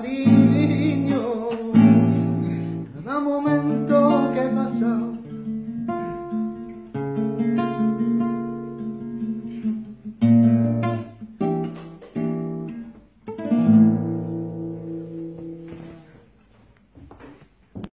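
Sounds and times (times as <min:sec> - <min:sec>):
acoustic guitar strumming: 0:00.0 - 0:16.3.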